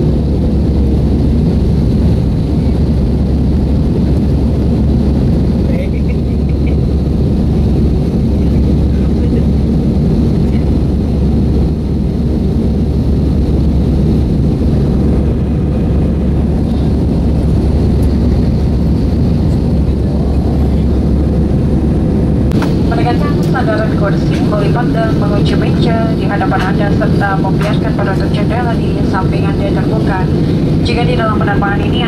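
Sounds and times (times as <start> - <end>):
jet engines droning: 0.0 - 32.0
rushing air: 0.0 - 32.0.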